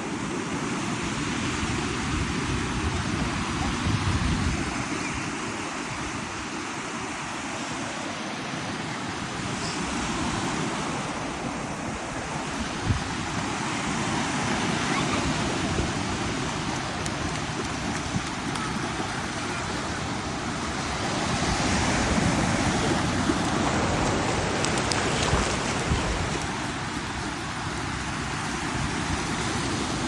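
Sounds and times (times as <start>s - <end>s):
ocean surf washing onto beach: 0.0s - 30.0s
wind buffeting microphone: 1.5s - 7.3s, 9.1s - 30.0s.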